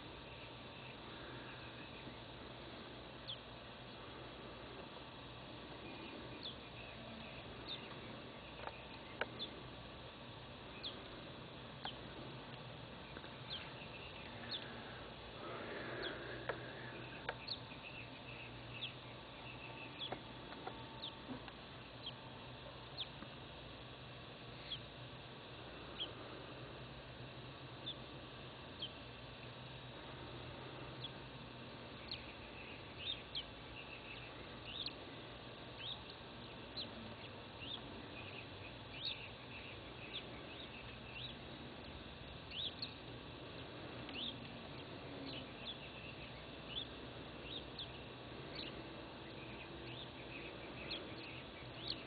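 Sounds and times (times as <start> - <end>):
birds chirping: 0.0 - 52.0
faint low hum: 0.0 - 52.0.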